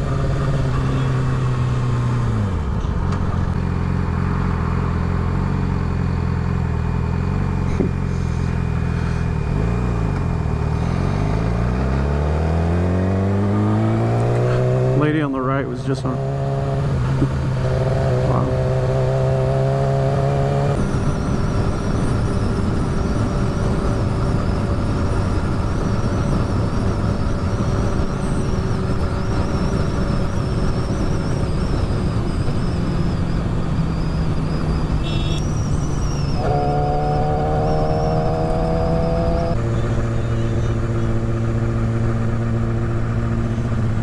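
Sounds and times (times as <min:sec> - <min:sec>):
motorcycle engine: 0:00.0 - 0:44.0.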